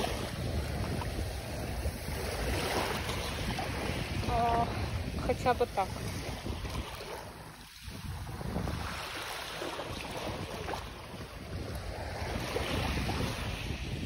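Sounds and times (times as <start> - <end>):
sea waves washing ashore: 0.0 - 14.0
wind buffeting microphone: 0.0 - 14.0.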